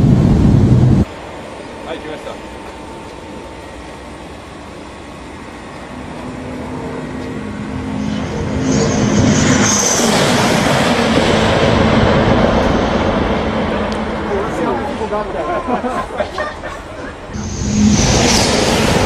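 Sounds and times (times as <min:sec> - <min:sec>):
high-speed train passing: 0:00.0 - 0:19.0.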